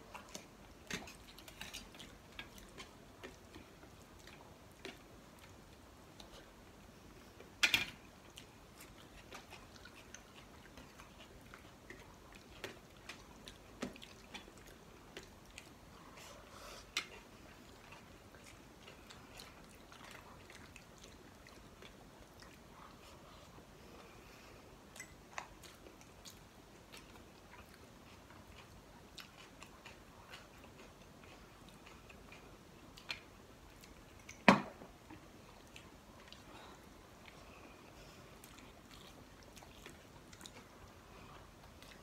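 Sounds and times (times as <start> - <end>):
faint chewing: 0.0 - 42.0.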